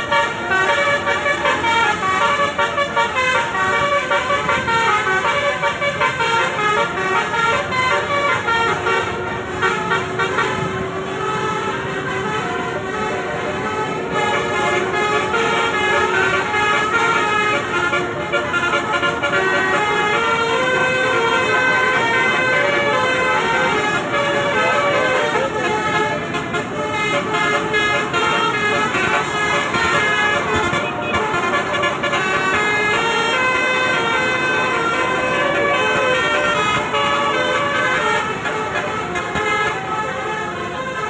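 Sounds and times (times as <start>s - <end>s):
musical air horns playing melodies: 0.0s - 41.0s
vehicle engine rumble: 0.0s - 41.0s.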